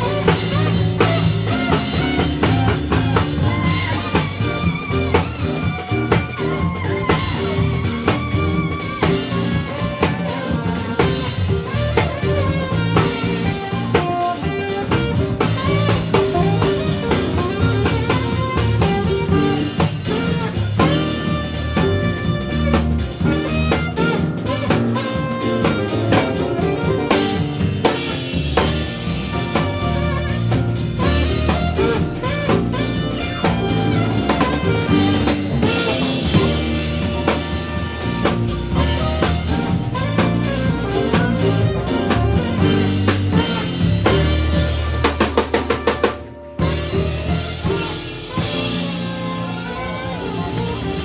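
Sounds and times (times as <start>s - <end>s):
drum fill: 0.0s - 51.0s
live band playing: 0.0s - 51.0s
saxophone lead: 0.0s - 51.0s.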